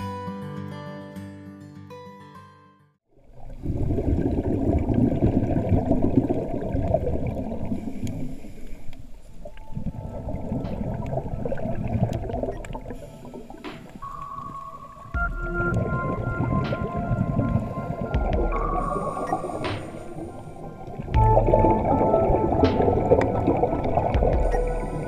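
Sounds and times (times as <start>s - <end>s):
underwater regulator bubbles: 3.2s - 25.0s.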